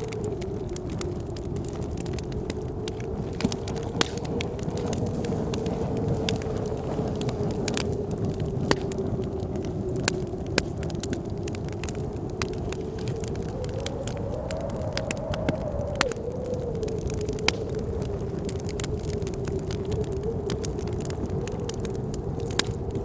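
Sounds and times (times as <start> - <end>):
howling blizzard wind: 0.0 - 23.0
wood fire crackling and popping: 0.0 - 23.0.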